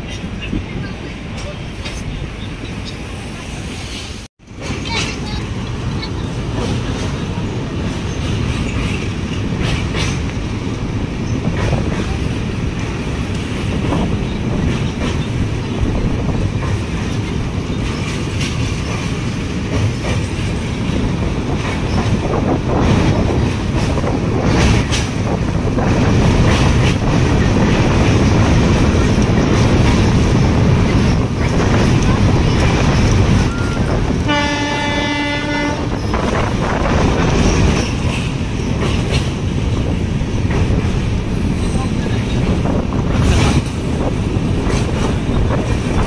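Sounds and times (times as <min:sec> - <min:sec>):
train rumbling over bridge: 0:00.0 - 0:46.0
wheels clacking over rail joints: 0:04.5 - 0:46.0.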